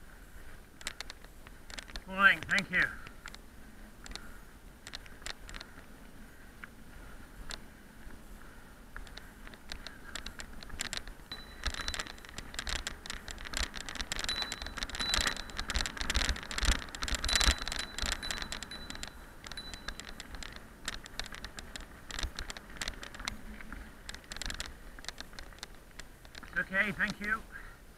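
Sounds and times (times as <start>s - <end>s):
bike rattling: 0.0s - 27.9s
bike tyres crunching on gravel: 0.0s - 27.9s.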